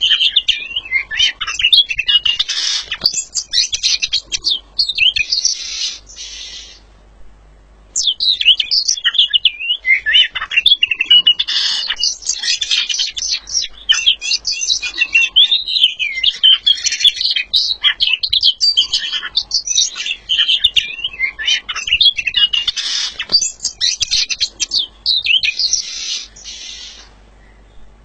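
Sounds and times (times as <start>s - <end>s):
songbird chirping and trilling: 0.0s - 28.0s.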